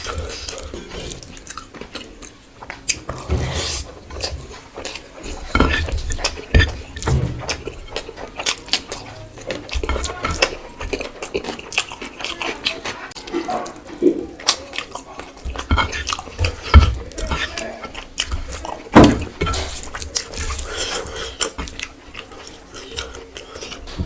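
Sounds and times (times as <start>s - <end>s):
chewing: 0.0s - 24.0s
cutlery clinking against plate: 2.7s - 24.0s.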